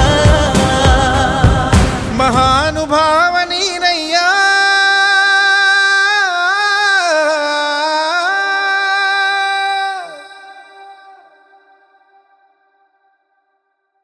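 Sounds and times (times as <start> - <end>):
man singing long high note: 0.0 - 12.5.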